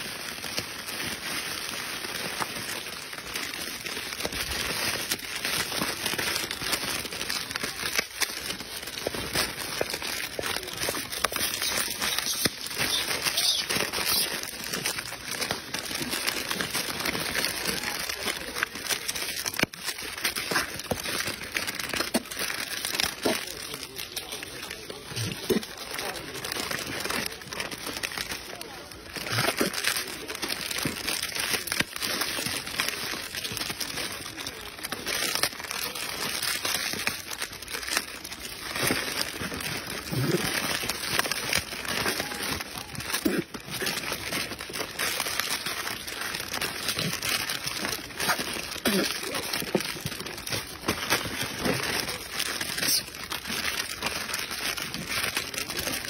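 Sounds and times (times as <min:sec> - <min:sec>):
plastic wrappers crinkling: 0:00.0 - 0:56.0.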